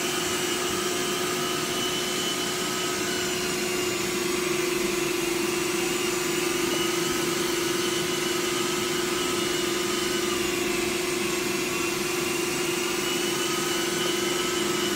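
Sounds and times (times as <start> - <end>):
carpet cleaner humming and hissing: 0.0 - 14.9.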